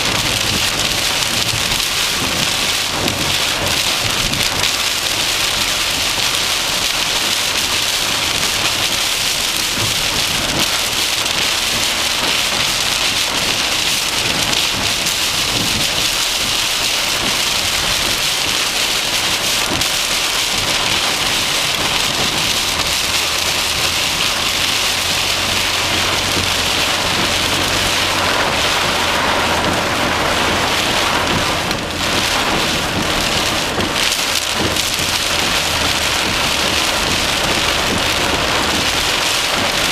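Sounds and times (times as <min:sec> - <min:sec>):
heavy rain on a vehicle: 0:00.0 - 0:39.9.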